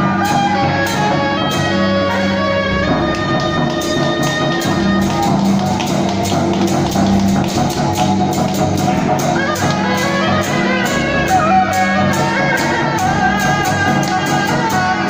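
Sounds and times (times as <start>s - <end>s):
procession drum beat: 0.0s - 15.0s.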